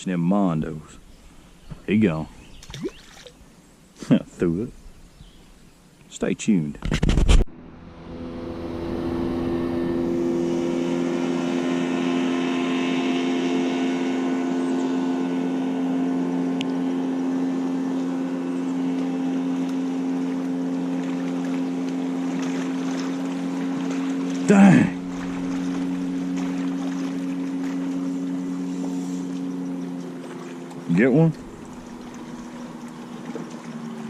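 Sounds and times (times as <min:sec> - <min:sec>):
motorboat engine humming: 0:00.0 - 0:06.6, 0:07.5 - 0:34.0.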